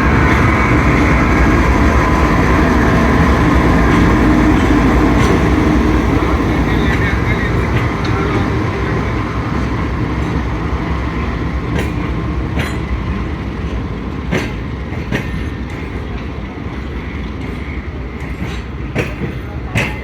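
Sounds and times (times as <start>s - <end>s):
train rumbling: 0.0s - 20.0s
wheels clacking over rail joints: 0.0s - 20.0s.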